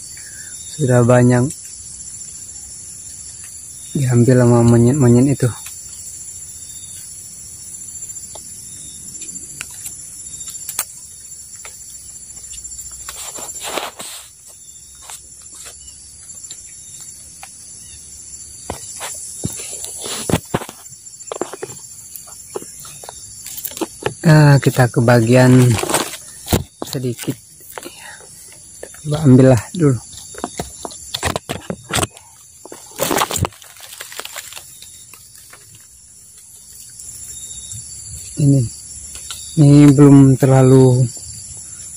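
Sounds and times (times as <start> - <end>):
insects chirping: 0.0 - 41.9
leaves and branches rustling: 0.8 - 41.6.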